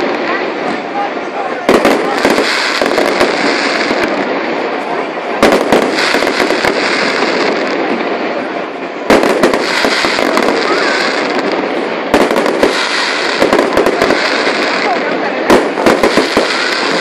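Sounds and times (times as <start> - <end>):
firework bangs: 0.0 - 17.0
fireworks crackling: 0.0 - 17.0.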